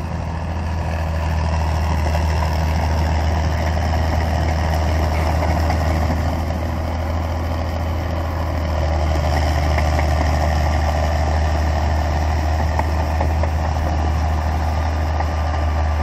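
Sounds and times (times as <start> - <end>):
tractor engine humming: 0.0 - 16.0.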